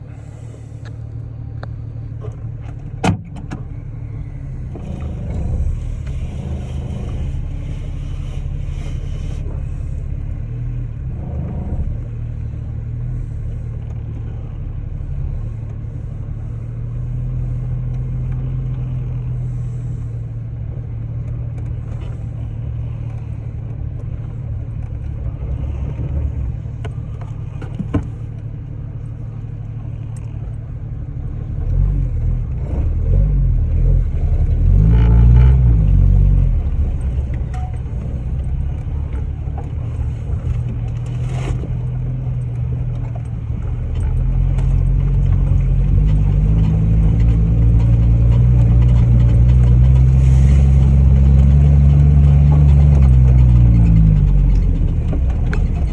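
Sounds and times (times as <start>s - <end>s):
vehicle engine and road rumble: 0.0s - 55.9s.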